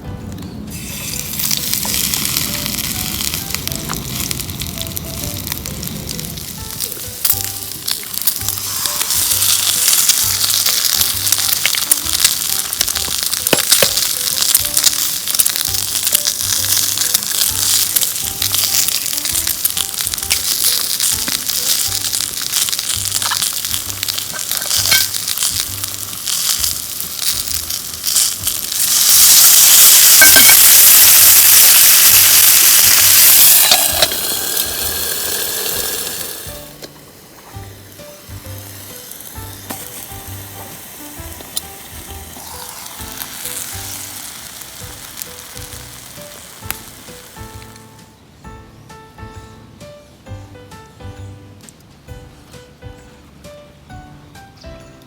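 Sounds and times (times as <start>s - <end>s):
soft background music: 0.0s - 55.0s
food sizzling in a pan: 0.7s - 47.9s.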